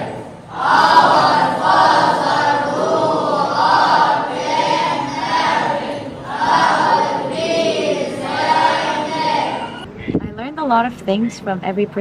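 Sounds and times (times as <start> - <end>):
group chanting in unison: 0.0 - 9.9.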